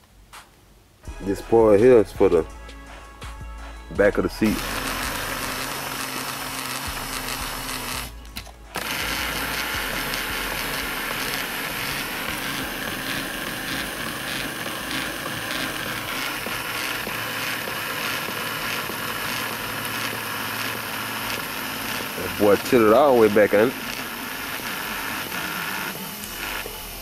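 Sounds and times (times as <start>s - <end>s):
seat motor whirring: 4.4s - 27.0s.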